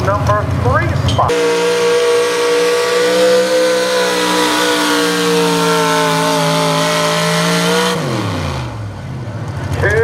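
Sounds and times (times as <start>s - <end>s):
supercharged truck engine at full throttle: 0.0s - 10.0s.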